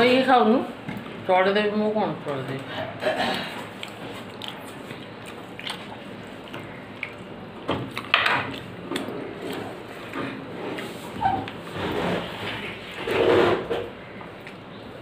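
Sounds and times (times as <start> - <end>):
wet squishing of food: 3.0 - 15.0.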